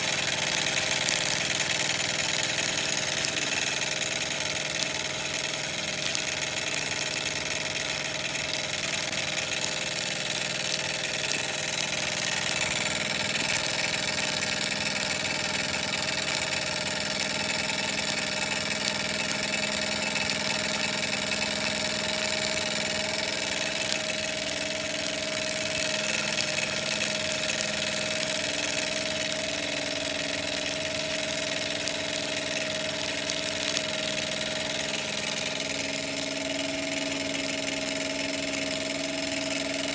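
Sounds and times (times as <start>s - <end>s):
miniature steam engine running: 0.0s - 39.9s.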